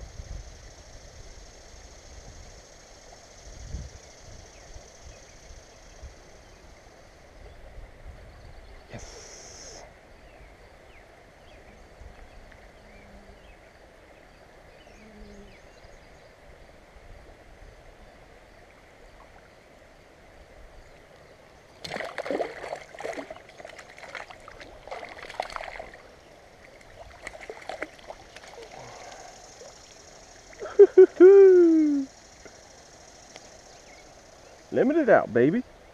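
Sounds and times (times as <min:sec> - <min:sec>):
flowing stream: 0:00.0 - 0:15.0, 0:15.6 - 0:35.9.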